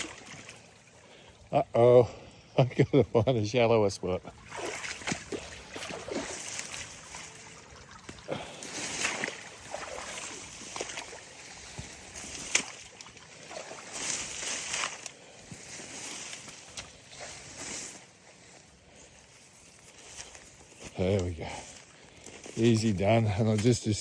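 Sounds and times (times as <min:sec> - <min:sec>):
boots sloshing through water: 0:00.0 - 0:01.6, 0:04.2 - 0:24.0.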